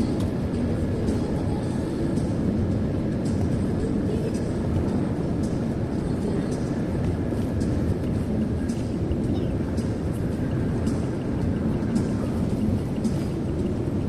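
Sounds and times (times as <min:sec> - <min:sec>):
car engine hum: 0:00.0 - 0:14.0
road and tyre noise: 0:00.0 - 0:14.0.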